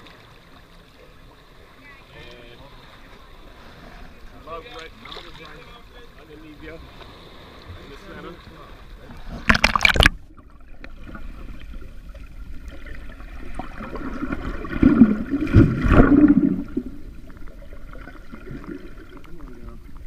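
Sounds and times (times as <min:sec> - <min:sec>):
water sloshing underwater: 0:00.0 - 0:20.0.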